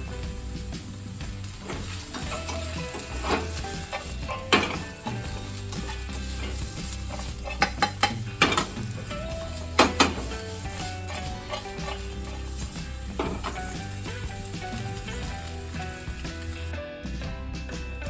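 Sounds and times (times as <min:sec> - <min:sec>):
metal spatula scraping a pan: 0:00.0 - 0:16.6
food sizzling in a pan: 0:00.0 - 0:16.7.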